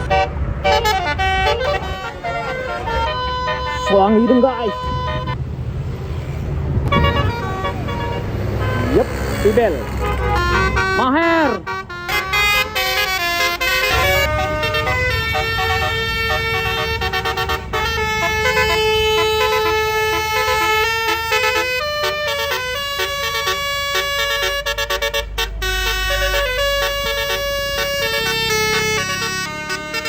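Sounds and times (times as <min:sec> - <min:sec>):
multi-tone air horn tune: 0:00.0 - 0:05.4, 0:06.9 - 0:09.1, 0:09.8 - 0:30.0
bus engine rumble: 0:00.0 - 0:30.0.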